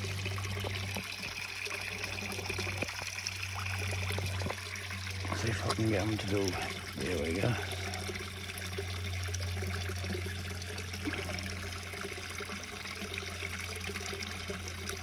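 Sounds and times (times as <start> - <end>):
constant low hum: 0.0 - 15.0
water trickling into pond: 0.0 - 15.0.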